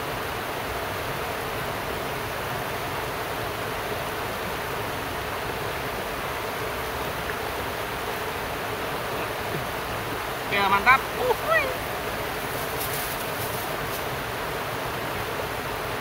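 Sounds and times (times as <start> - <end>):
river washing over rocks: 0.0 - 16.0.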